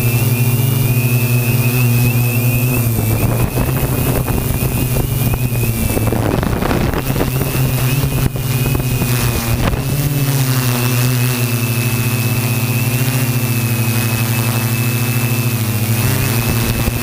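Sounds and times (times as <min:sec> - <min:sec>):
drone motors humming: 0:00.0 - 0:17.0
wind noise on microphone: 0:00.0 - 0:17.0.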